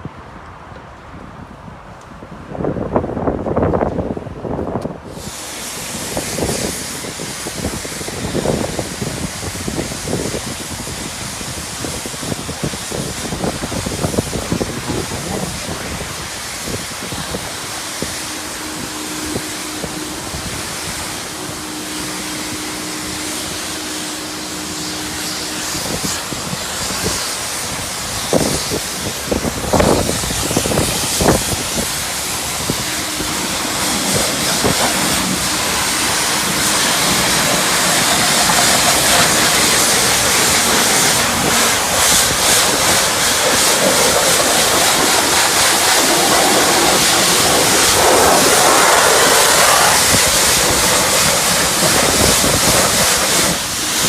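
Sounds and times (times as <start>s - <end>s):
high-pressure water spray on car: 5.0s - 54.0s.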